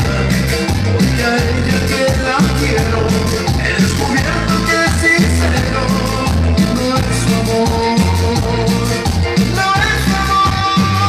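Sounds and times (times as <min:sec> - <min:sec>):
live latin dance music: 0:00.0 - 0:11.0.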